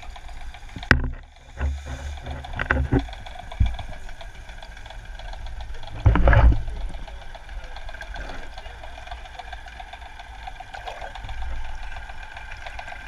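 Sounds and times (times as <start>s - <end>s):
low underwater rumble: 0.0s - 13.0s
water knocks and swishes: 0.0s - 13.0s.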